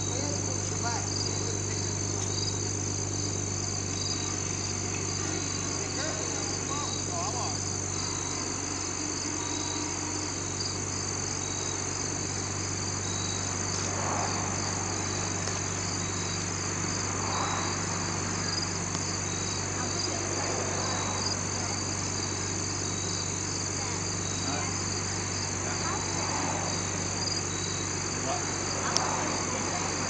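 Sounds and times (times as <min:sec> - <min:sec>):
insects chirping: 0:00.0 - 0:30.0
steady low hum: 0:00.0 - 0:30.0.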